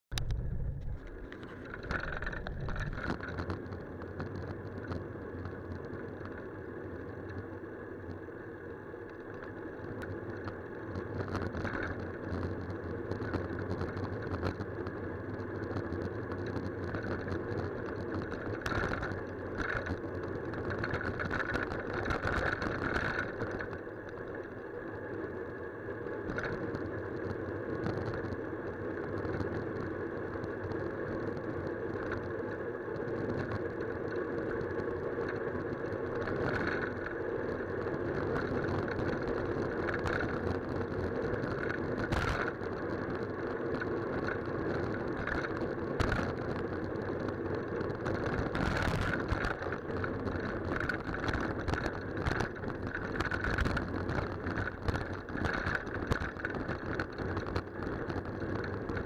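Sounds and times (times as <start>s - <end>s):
bicycle riding on wet road: 0.1s - 59.0s.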